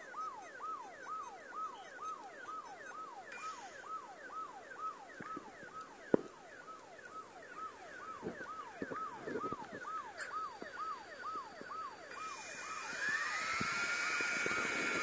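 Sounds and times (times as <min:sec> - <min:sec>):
siren-like electronic warble: 0:00.0 - 0:15.0.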